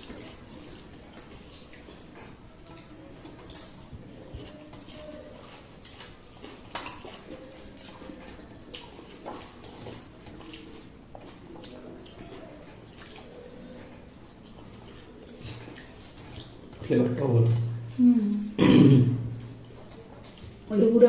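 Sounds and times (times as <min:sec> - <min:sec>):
chewing: 0:00.0 - 0:21.0
wet squishing of food mixing: 0:00.0 - 0:21.0.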